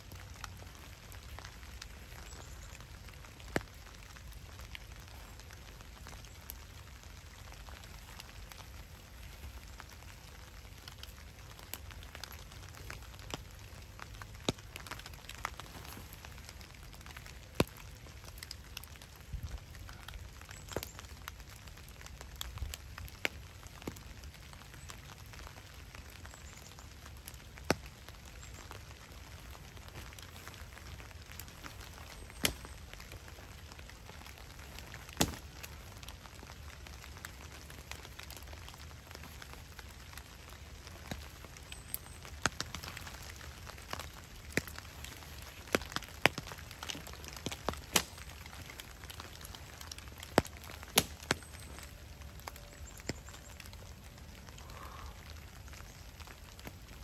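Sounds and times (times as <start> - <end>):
campfire crackling and popping: 0.0 - 57.0
steady rain falling: 0.0 - 57.0.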